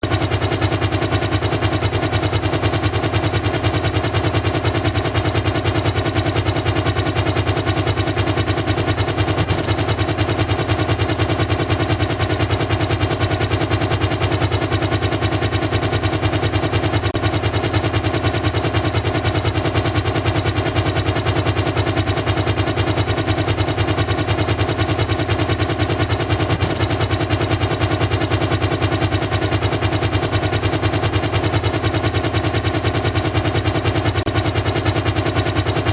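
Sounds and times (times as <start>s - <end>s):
helicopter rotor blades chopping: 0.0s - 35.9s.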